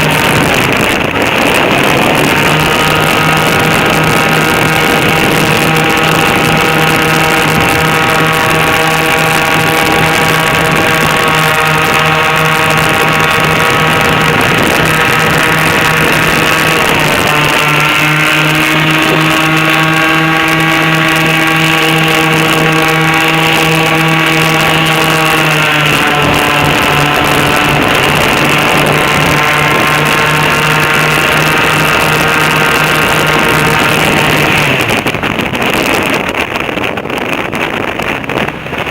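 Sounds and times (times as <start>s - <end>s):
airboat engine and propeller: 0.0s - 38.9s.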